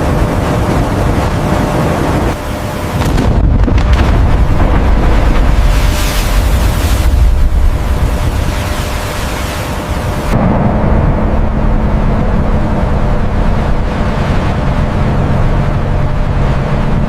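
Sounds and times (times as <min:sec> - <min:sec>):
loud rumbling noise: 0:00.0 - 0:17.0
low engine drone: 0:00.0 - 0:17.0.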